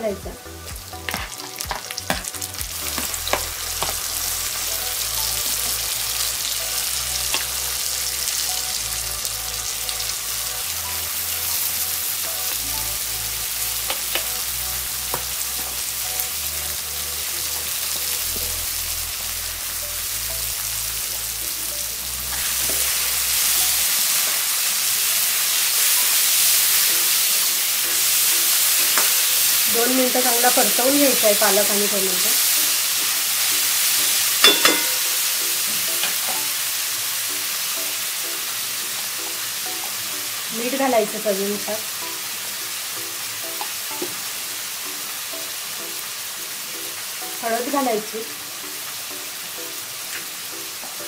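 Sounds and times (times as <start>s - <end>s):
vegetables sizzling in a wok: 0.0s - 51.0s.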